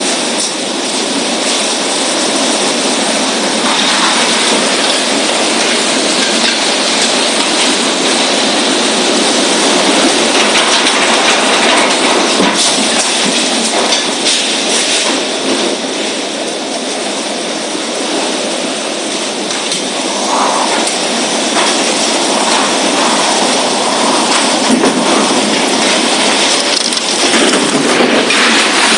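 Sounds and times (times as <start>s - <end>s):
heavy rain: 0.0s - 28.9s
strong wind: 0.0s - 28.9s.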